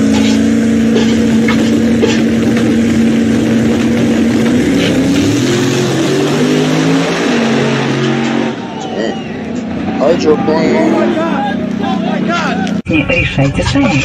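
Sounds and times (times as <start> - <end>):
car engine running at high revs: 0.0 - 12.8.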